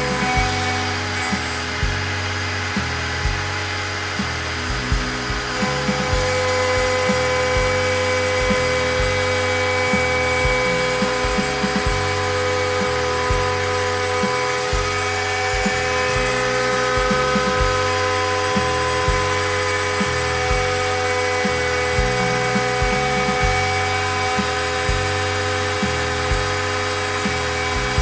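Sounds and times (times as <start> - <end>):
low motor tones: 0.0 - 28.0
router spindle whine: 0.0 - 28.0.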